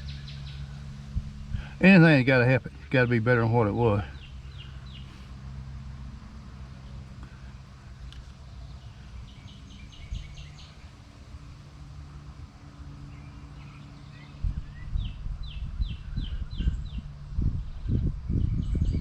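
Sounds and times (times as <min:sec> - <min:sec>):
songbird singing: 0:00.0 - 0:19.0
steady low hum: 0:00.0 - 0:19.0.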